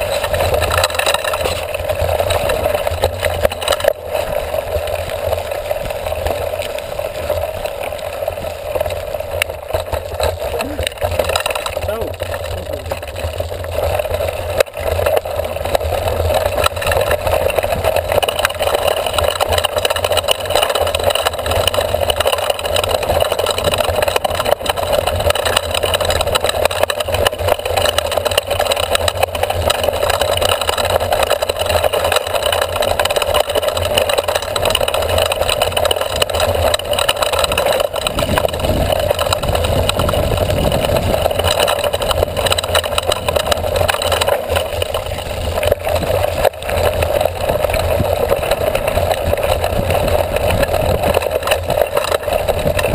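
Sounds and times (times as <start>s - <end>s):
bike rattles and knocks: 0.0s - 52.9s
wind and tyres rumbling: 0.0s - 52.9s.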